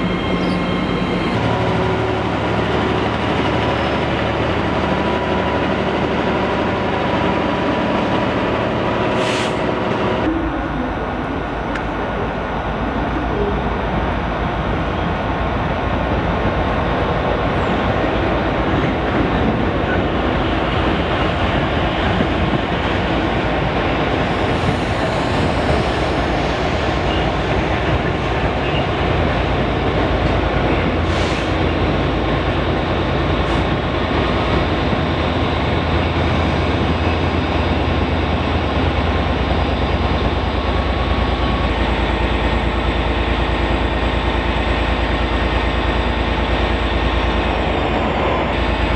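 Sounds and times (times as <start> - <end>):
diesel locomotive engine rumble: 0.0 - 48.9
train wheels rumbling on rail: 0.0 - 48.9.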